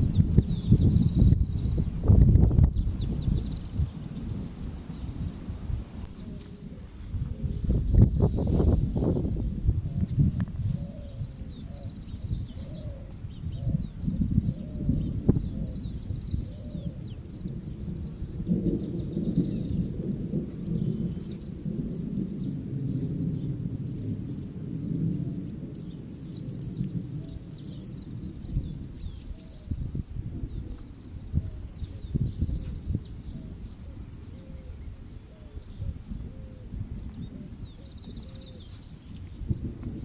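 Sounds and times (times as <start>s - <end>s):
birds chirping and calling: 0.0s - 23.0s, 23.8s - 40.0s.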